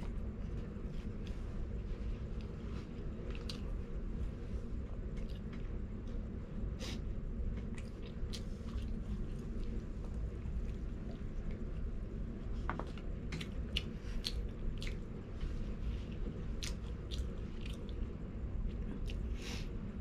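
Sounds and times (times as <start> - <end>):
close chewing of food: 0.0 - 6.4, 7.4 - 19.4
steady low hum: 0.0 - 20.0.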